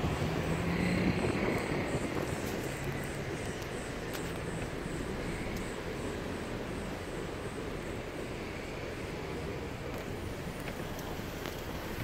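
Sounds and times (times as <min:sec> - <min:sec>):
car tyre and engine noise: 0:00.0 - 0:12.0.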